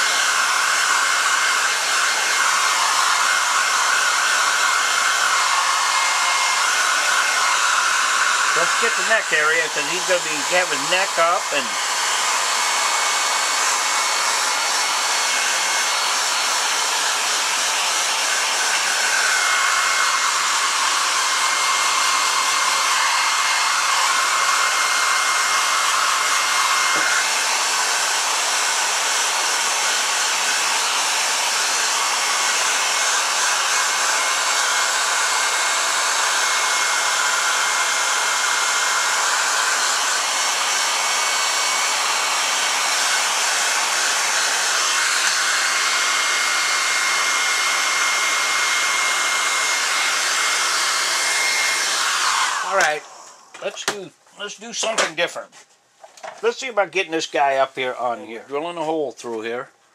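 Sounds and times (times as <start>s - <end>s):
hair dryer blowing: 0.0s - 55.2s.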